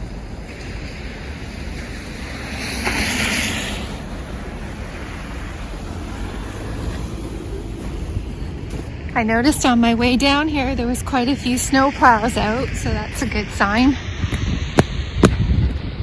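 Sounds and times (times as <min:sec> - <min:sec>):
outdoor rushing noise: 0:00.0 - 0:16.0
vehicle tyre hiss passing: 0:00.0 - 0:16.0
wind on microphone: 0:00.0 - 0:16.0.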